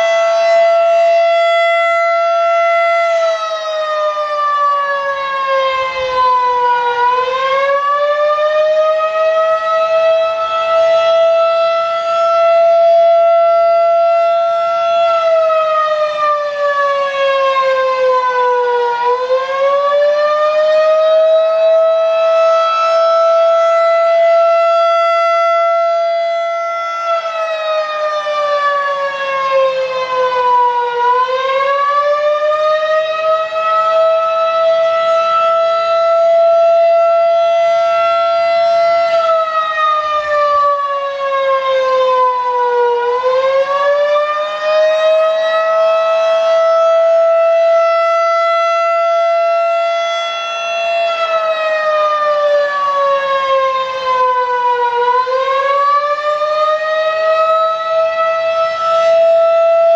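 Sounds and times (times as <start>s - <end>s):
warning siren high steady tone: 0.0s - 59.9s.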